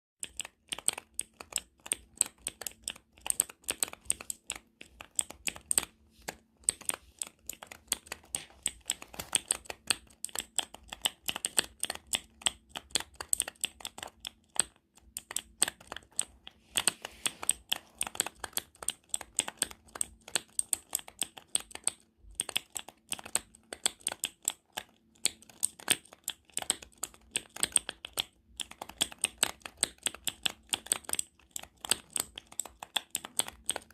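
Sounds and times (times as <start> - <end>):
keyboard typing: 0.2 - 33.9.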